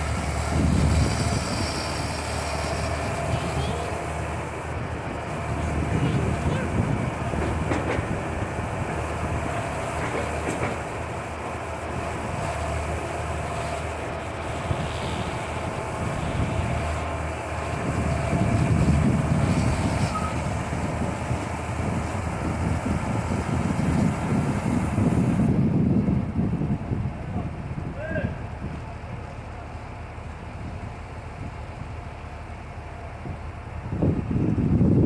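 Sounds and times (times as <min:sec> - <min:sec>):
excavator engine rumble: 0:00.0 - 0:35.0.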